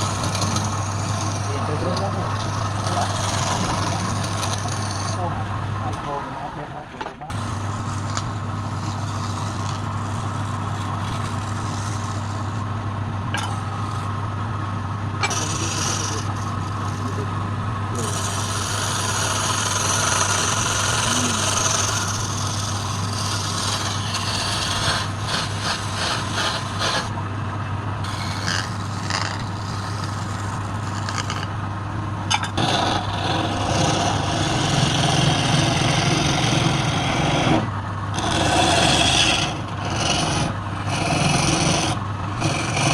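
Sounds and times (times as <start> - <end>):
wood being scraped on lathe: 0.0 - 6.1, 7.3 - 27.3, 28.0 - 42.9
wood lathe humming: 0.0 - 6.3, 7.3 - 42.9.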